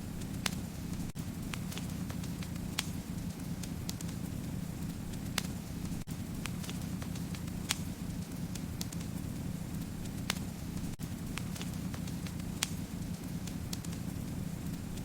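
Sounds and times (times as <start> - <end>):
low rumble of burning: 0.0 - 15.0
wood fire crackling: 0.0 - 15.0
sharp pops from fire: 0.1 - 15.0.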